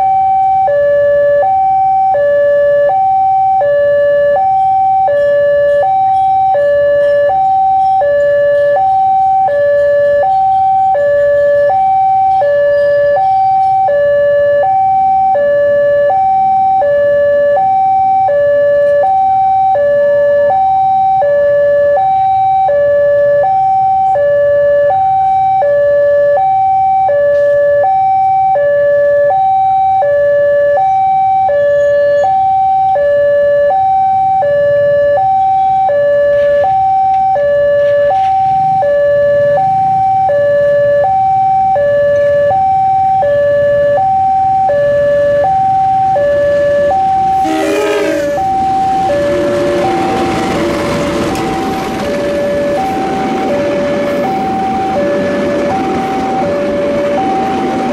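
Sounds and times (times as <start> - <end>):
level crossing alarm tones: 0.0 - 57.9.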